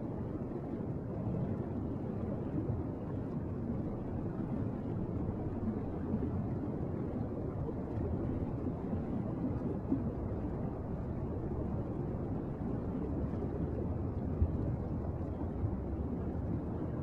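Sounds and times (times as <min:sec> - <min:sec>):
low rumbling underwater noise: 0:00.0 - 0:17.0.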